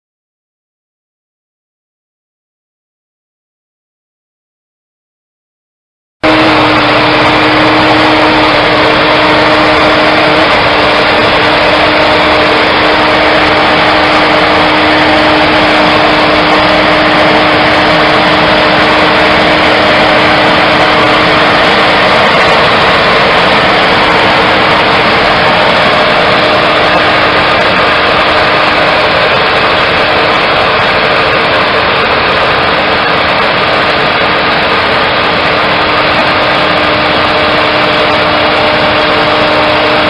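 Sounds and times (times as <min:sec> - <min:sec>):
vehicle engine humming: 0:06.2 - 0:40.0.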